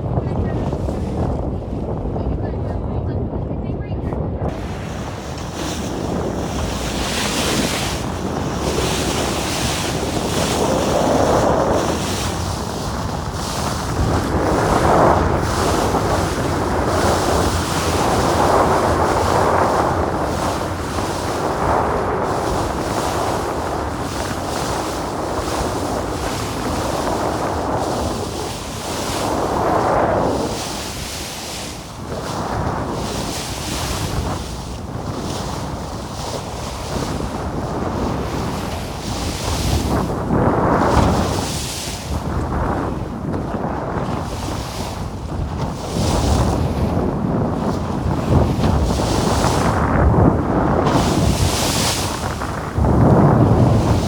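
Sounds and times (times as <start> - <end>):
open sea rushing: 0.0 - 2.1, 4.5 - 54.0
wind buffeting microphone: 0.0 - 54.0.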